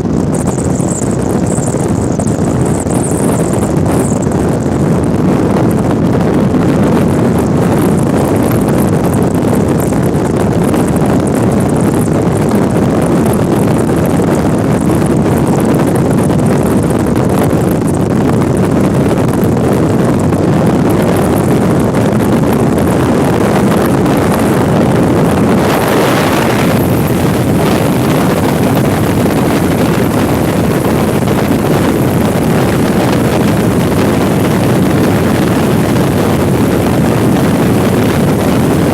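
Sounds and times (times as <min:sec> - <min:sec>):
storm wind on microphone: 0:00.0 - 0:38.9.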